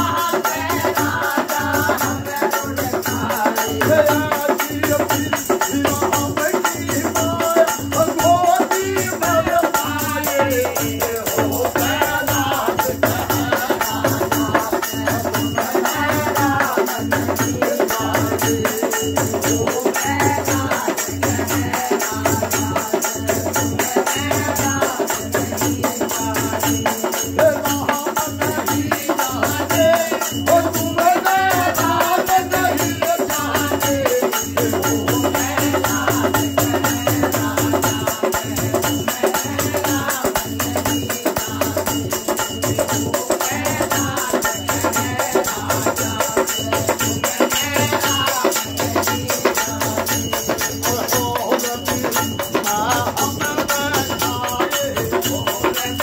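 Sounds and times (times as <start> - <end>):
hand drum beat: 0.0 - 56.0
man singing: 0.0 - 56.0.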